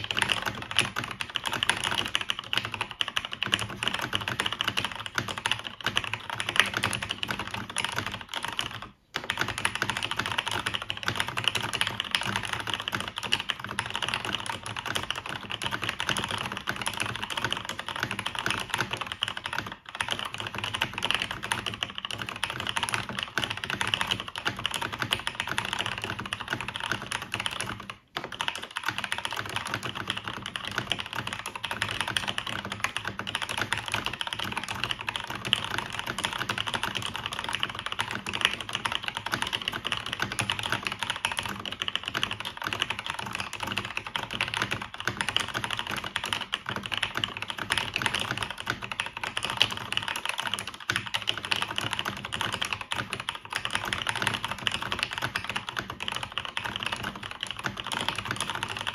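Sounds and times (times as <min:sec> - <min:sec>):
fast keyboard typing: 0:00.0 - 0:58.9.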